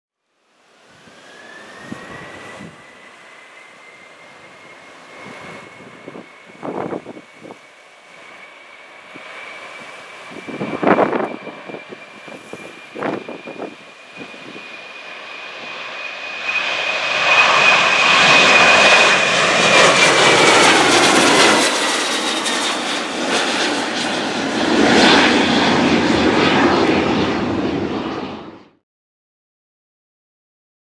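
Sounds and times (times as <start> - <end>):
high jet whine: 0.4 - 28.8
jet engines roaring at take-off: 0.4 - 28.8.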